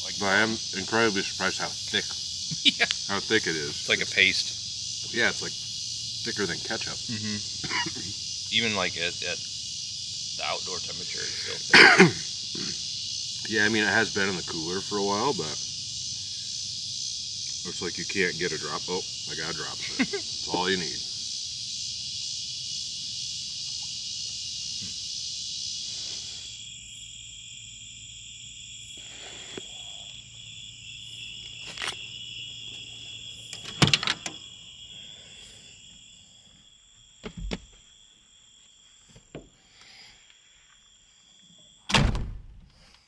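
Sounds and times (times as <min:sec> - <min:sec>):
night insects trilling: 0:00.0 - 0:42.1, 0:42.7 - 0:43.0.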